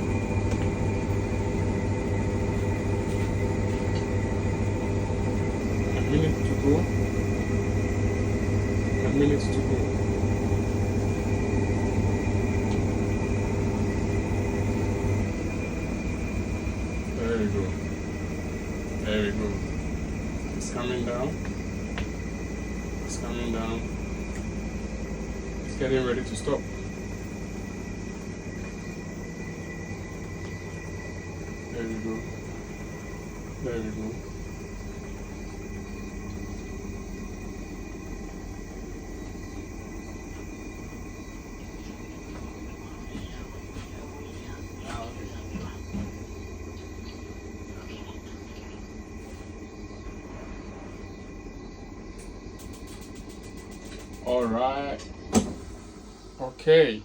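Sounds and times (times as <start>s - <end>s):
washing machine drum spinning: 0.0s - 56.8s.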